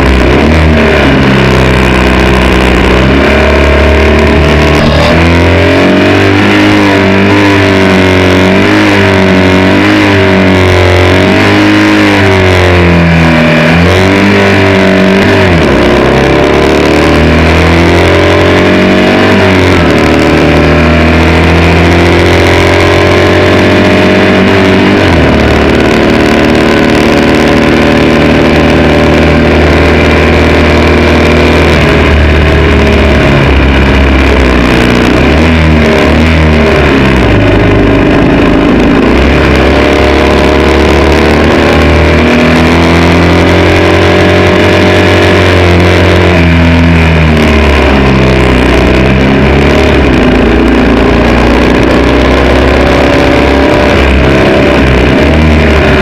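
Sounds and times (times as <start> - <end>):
racing motorcycle engine: 0.0 - 56.0.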